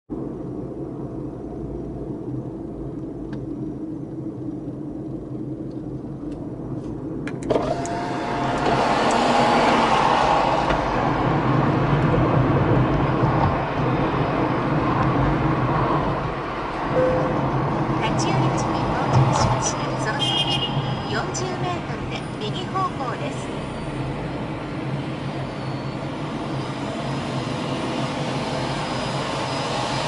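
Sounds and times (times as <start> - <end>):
car engine and tyre rumble: 0.1 - 30.0.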